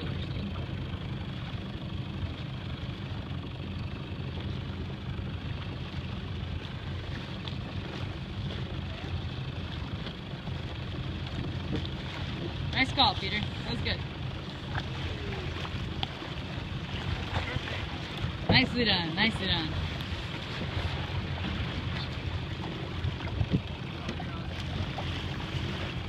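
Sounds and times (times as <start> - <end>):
motorboat engine running: 0.0 - 26.0
water noise: 0.0 - 26.0
wind: 0.0 - 26.0.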